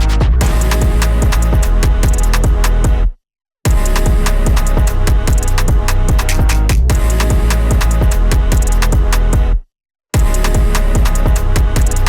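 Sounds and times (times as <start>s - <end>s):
drum and bass music: 0.0s - 3.1s, 3.7s - 9.6s, 10.2s - 12.0s.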